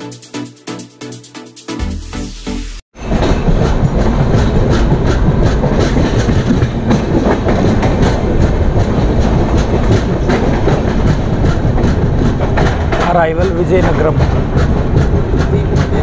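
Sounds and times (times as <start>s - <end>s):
train rumble: 3.0s - 16.0s
wheels clacking over rail joints: 3.0s - 16.0s.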